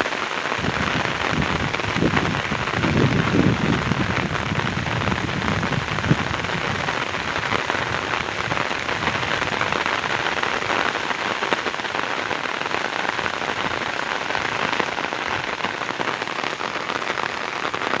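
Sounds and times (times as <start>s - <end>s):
heavy rain patter: 0.0s - 18.0s.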